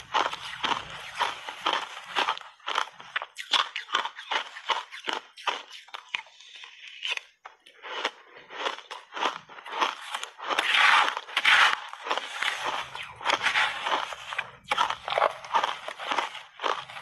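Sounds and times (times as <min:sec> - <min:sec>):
crunching shaved ice: 0:00.0 - 0:17.0.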